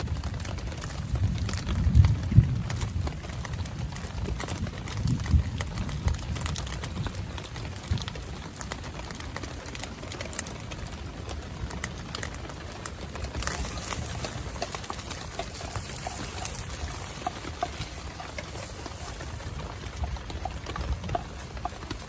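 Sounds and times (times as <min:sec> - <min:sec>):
rain falling: 0:00.0 - 0:22.0
raindrops tapping nearby: 0:00.0 - 0:22.0.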